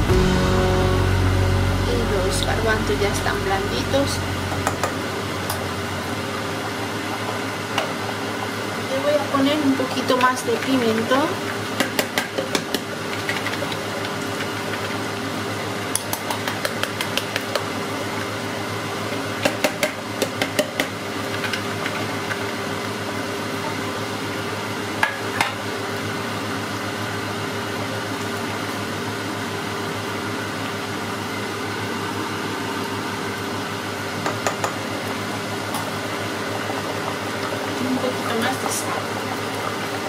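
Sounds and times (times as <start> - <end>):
kitchen fan hum: 0.0 - 40.0.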